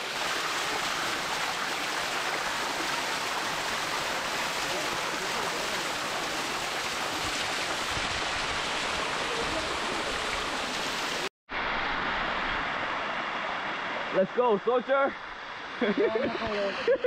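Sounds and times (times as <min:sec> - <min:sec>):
waterfall rushing over rocks: 0:00.0 - 0:14.3.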